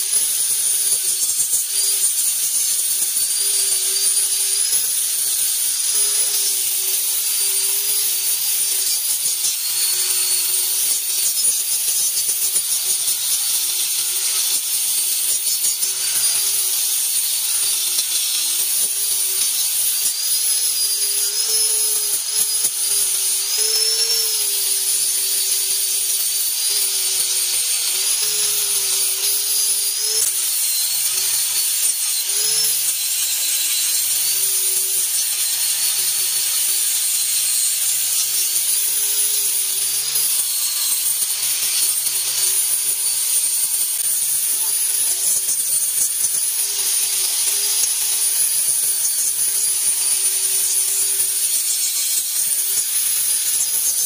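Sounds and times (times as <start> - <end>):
angle grinder grinding steel: 0.0 - 54.0.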